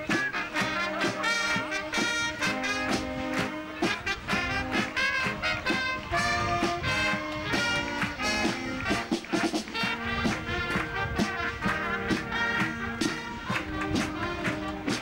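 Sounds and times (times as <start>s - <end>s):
brass ensemble playing: 0.0s - 15.0s
marching drums: 0.0s - 15.0s.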